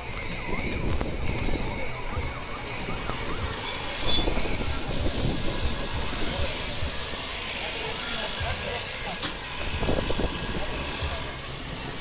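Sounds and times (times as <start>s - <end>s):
mechanical rumble: 0.0s - 12.0s.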